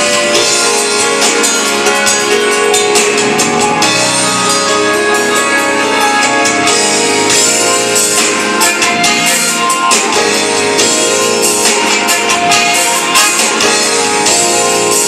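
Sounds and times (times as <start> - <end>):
drums and cymbal hits: 0.0 - 15.0
live band playing: 0.0 - 15.0
sustained keyboard chords: 0.0 - 15.0.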